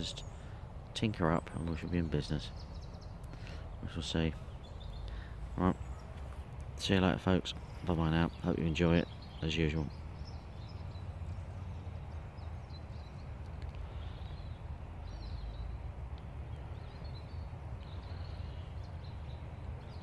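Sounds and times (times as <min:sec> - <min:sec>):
faint bird chirps: 0:01.2 - 0:20.0.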